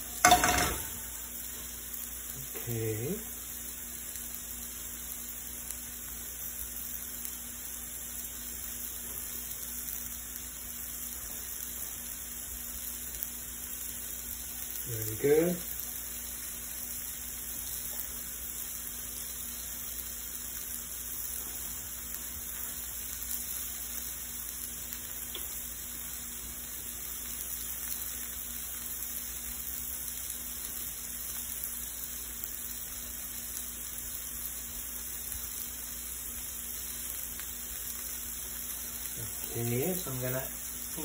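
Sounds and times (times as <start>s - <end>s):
shrimp sizzling in oil: 0.0s - 41.0s.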